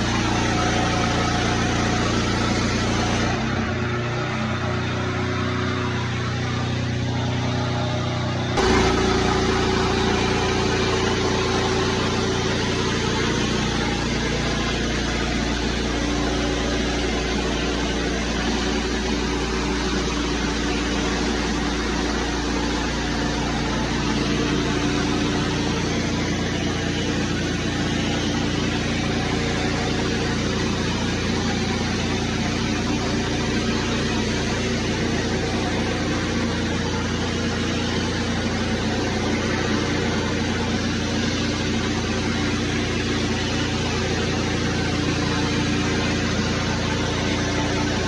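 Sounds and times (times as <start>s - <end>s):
small gas engine running: 0.0s - 48.0s.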